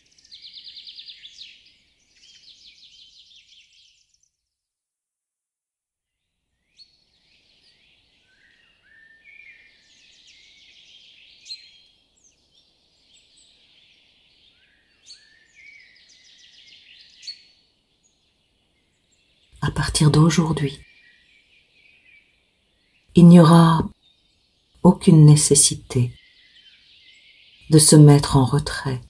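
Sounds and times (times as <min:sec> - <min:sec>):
songbird chorus chirping: 0:00.0 - 0:04.7, 0:06.2 - 0:29.0.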